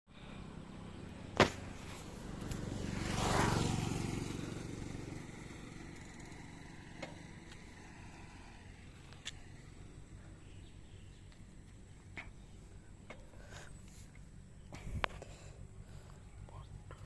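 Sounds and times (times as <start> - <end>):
passing vehicle: 0.1 - 17.0.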